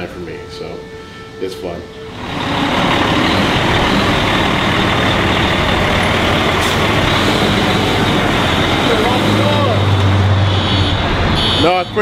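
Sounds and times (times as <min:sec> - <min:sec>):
diesel engine running: 0:01.9 - 0:12.0.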